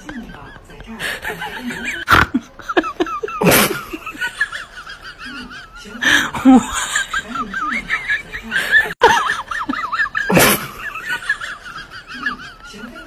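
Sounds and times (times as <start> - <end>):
laughter: 0.0 - 13.0.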